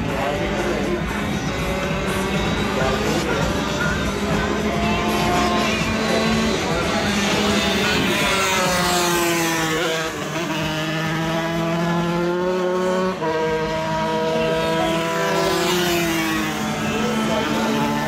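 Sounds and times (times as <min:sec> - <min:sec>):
racing motorcycle engine revving: 0:00.0 - 0:18.0.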